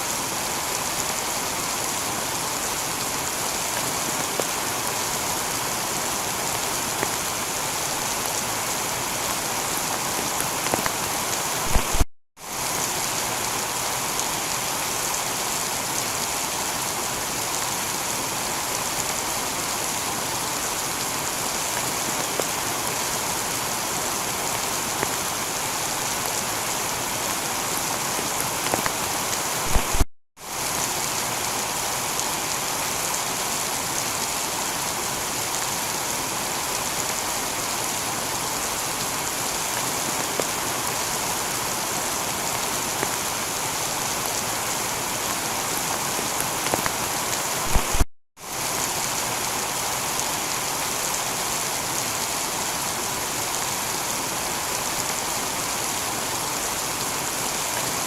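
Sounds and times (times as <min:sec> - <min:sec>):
heavy rain on a tiled roof: 0:00.0 - 0:58.0.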